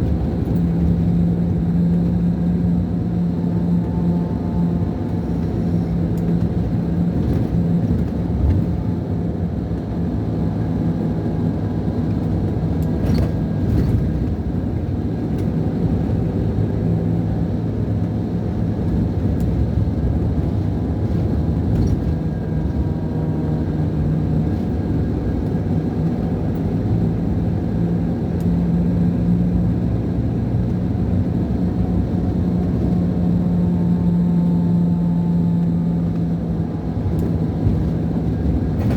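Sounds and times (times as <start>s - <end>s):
diesel engine inside a coach: 0.0s - 38.9s.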